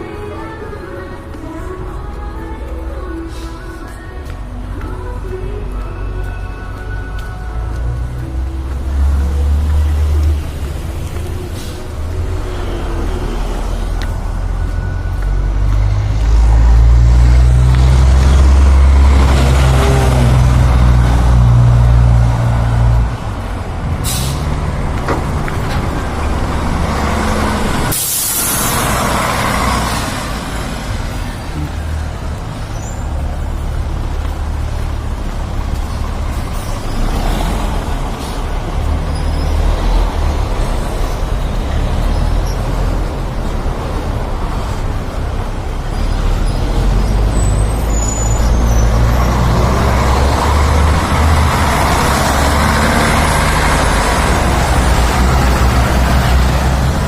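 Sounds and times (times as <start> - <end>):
street traffic: 0.0 - 57.0.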